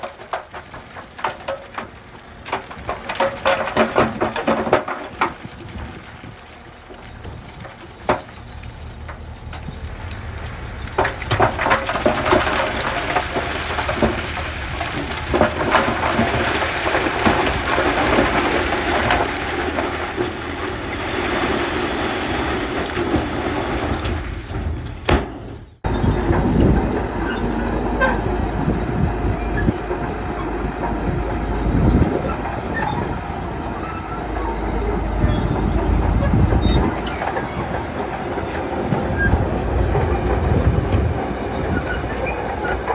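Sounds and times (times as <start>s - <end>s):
gravel and sand scraping: 0.0s - 25.0s, 25.8s - 42.9s
bulldozer engine running under load: 0.0s - 42.9s
steel tracks clanking: 6.9s - 42.9s.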